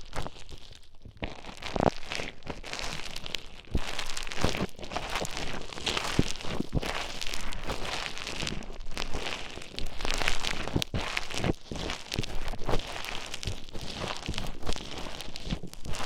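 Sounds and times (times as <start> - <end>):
foam beads crackling close up: 0.0 - 16.0.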